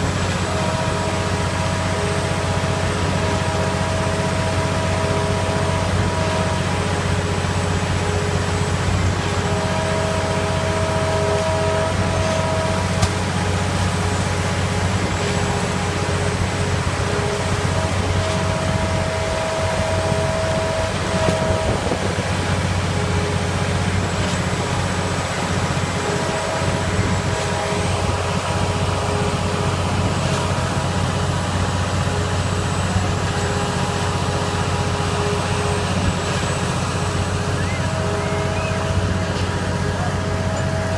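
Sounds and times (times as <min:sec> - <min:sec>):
concrete machinery engines droning: 0:00.0 - 0:40.9
steady whining tones: 0:00.0 - 0:40.9.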